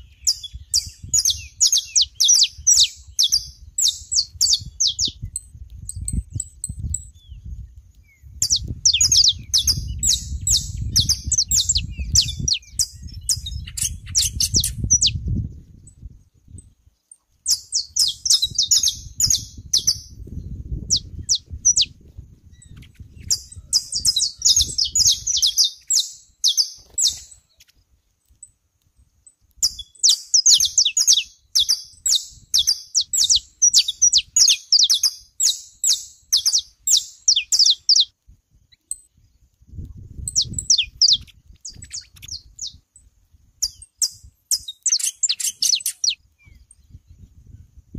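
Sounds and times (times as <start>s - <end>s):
finches singing: 0.0s - 28.5s, 29.1s - 38.1s, 40.2s - 42.8s, 43.6s - 47.6s.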